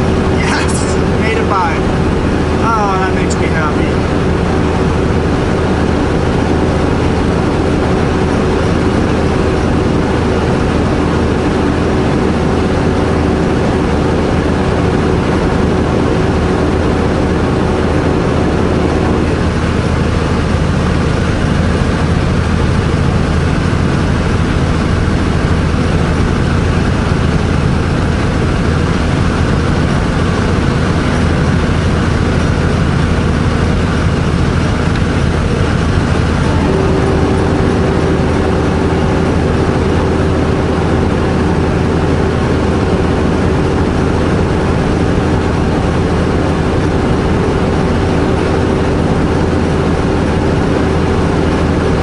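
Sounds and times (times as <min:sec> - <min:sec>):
road noise: 0:00.0 - 0:51.4
diesel truck engine running: 0:00.0 - 0:52.0
steady higher hum: 0:00.0 - 0:52.0.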